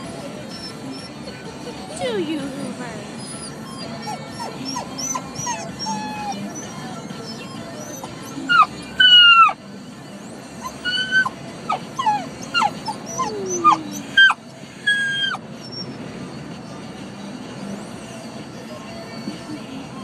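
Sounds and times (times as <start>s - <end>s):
dog whining and whimpering: 0.0s - 16.4s
low road rumble: 0.0s - 20.0s.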